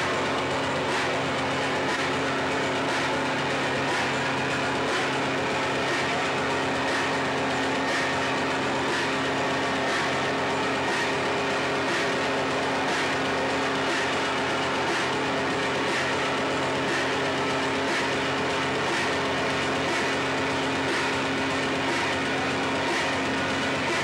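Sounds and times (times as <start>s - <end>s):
distorted noise music: 0.0s - 24.0s
low drone: 0.0s - 24.0s.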